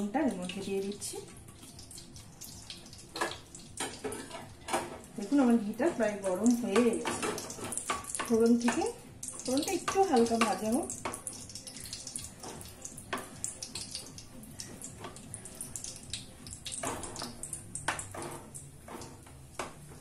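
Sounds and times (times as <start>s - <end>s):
spices sizzling in hot oil: 0.0s - 20.0s.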